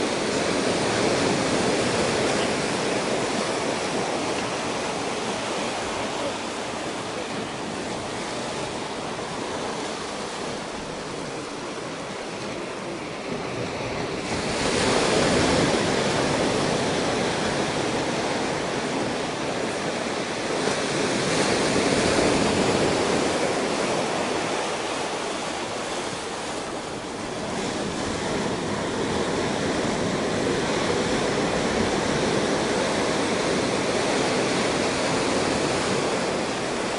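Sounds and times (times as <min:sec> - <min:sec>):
ocean surf on rocky beach: 0:00.0 - 0:36.9.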